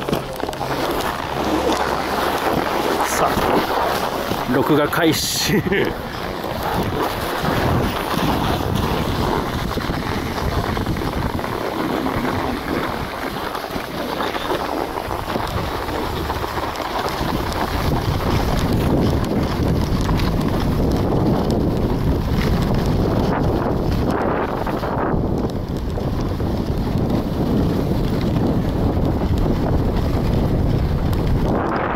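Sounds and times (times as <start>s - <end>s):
skis scraping over packed snow: 0.0s - 31.9s
wind buffeting microphone: 0.0s - 31.9s.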